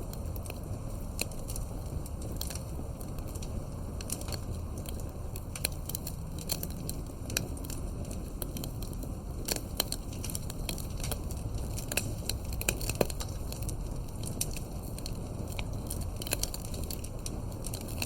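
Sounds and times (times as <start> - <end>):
firewood crackling and popping: 0.0 - 18.0
low rush of flames: 0.0 - 18.0.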